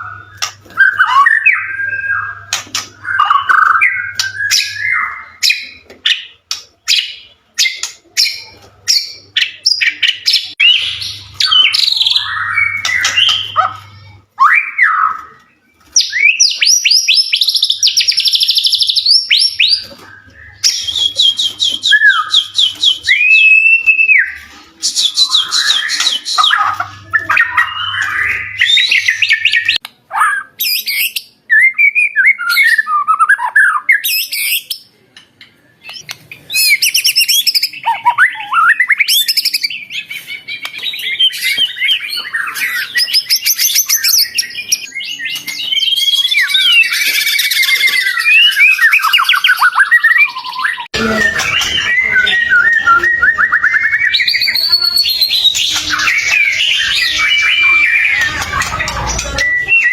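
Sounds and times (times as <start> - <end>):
songbird whistling song: 0.0 - 34.8, 35.7 - 59.9.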